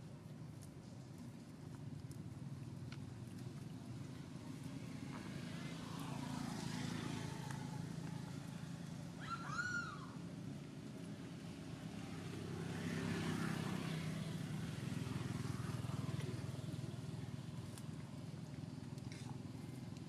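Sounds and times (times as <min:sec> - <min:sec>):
traffic engine drone: 0:00.0 - 0:20.0.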